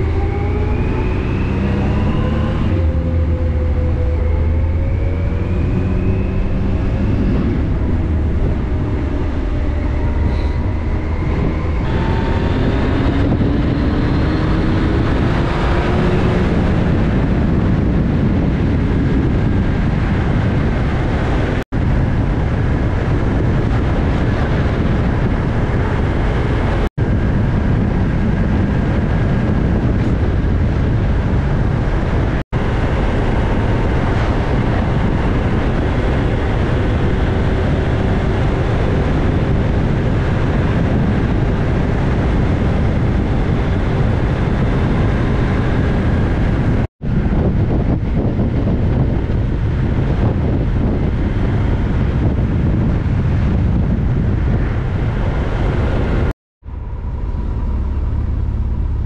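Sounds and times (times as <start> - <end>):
loud wind rush: 0.0 - 59.0
motorcycle engine accelerating: 0.0 - 59.0.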